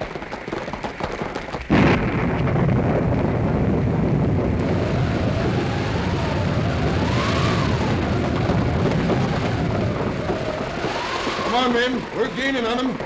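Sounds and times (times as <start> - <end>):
howling wind: 0.0 - 13.0
rain: 0.0 - 13.0.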